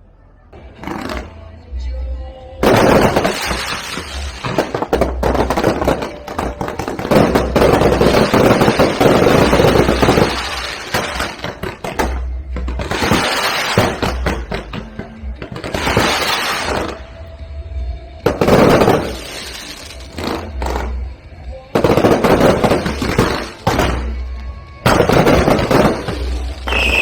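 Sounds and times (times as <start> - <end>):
fireworks crackling: 0.8 - 1.4, 2.6 - 17.3, 18.3 - 21.2, 21.8 - 27.0.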